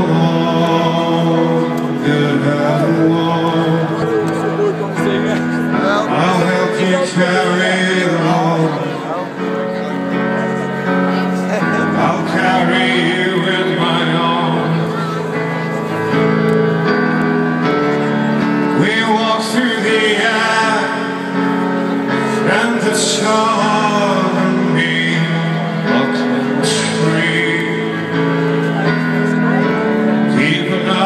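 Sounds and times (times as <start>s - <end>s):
man singing: 0.0s - 16.3s, 17.6s - 31.0s
live rock band: 0.0s - 31.0s.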